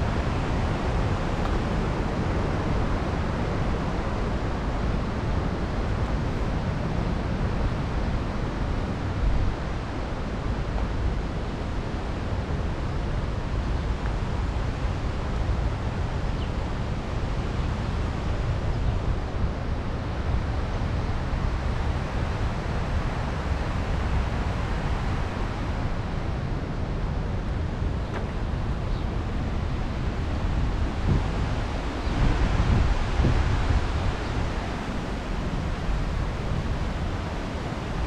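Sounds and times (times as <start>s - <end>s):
rushing noise with deep rumble: 0.0s - 38.0s.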